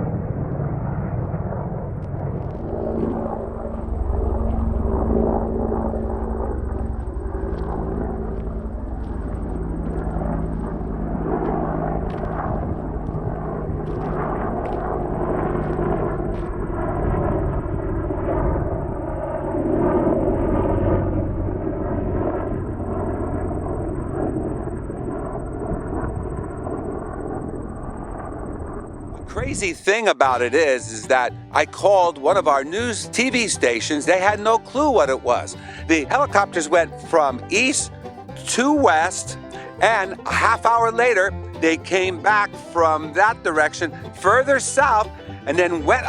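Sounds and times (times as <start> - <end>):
helicopters passing overhead: 0.0 - 46.0.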